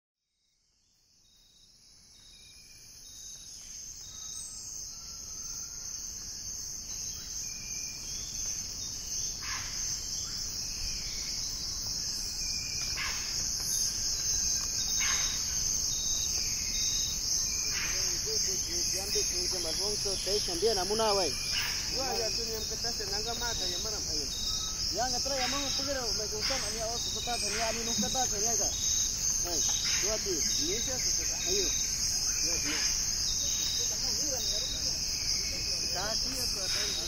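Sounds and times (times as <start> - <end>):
high-pitched insect chorus: 0.4 - 37.0.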